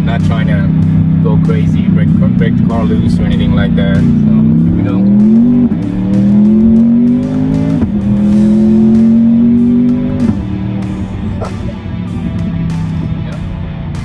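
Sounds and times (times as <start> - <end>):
sports car accelerating with upshifts: 0.0 - 14.0.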